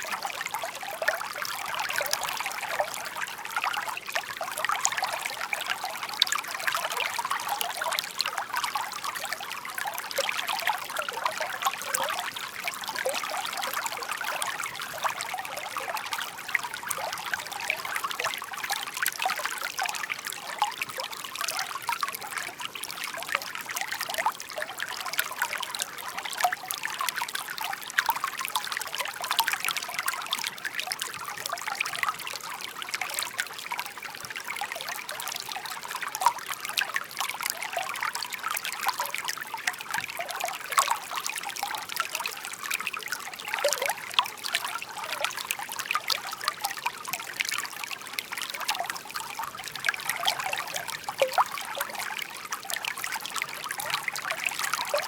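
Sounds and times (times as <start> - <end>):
brook water babbling over stones: 0.0 - 55.0.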